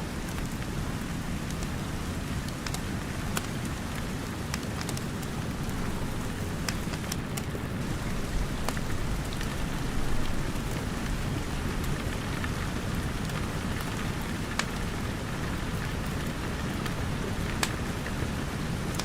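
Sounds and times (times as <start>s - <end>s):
steady rain hiss: 0.0s - 19.0s
wood fire crackling: 0.1s - 19.0s.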